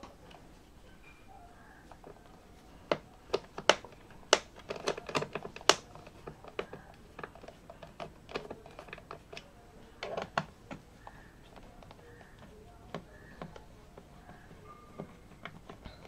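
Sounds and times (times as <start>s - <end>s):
plastic clicks and taps: 2.9s - 16.0s.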